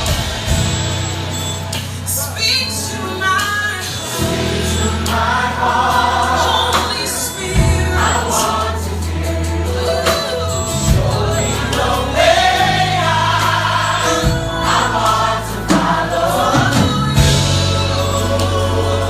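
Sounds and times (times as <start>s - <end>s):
bass and drums: 0.0s - 19.0s
gospel choir singing: 0.0s - 19.0s.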